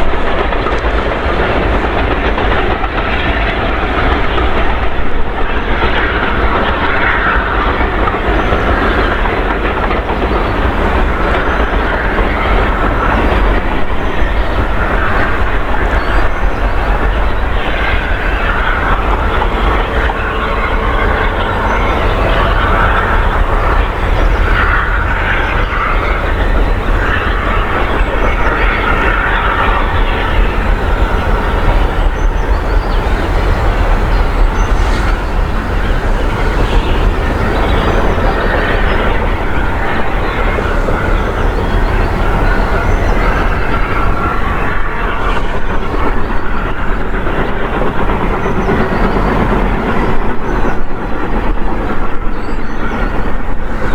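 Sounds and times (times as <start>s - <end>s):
train wheels clattering over rails: 0.0s - 53.9s.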